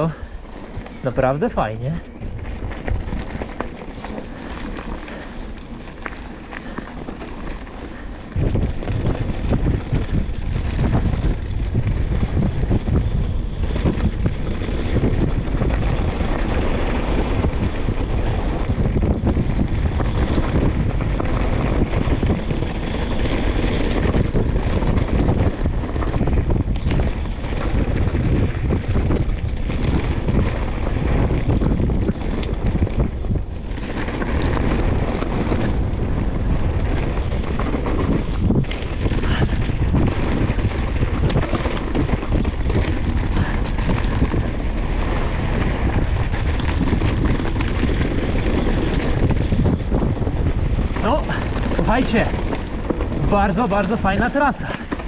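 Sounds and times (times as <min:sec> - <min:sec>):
bike knocking and rattling: 0:00.0 - 0:55.0
tyres rumbling on dirt: 0:00.0 - 0:55.0
wind buffeting microphone: 0:00.0 - 0:55.0.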